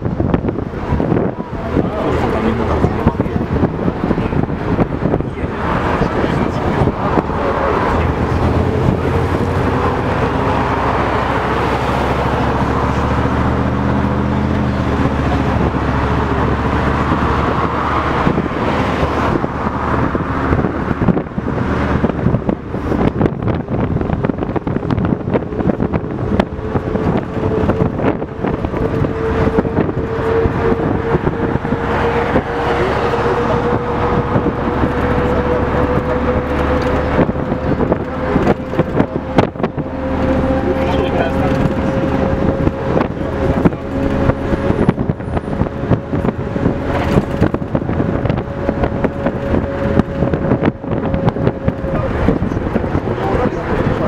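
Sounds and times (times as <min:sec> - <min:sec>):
loose rattles of bus body: 0:00.0 - 0:32.5, 0:33.1 - 0:54.0
bus engine droning: 0:00.0 - 0:54.0.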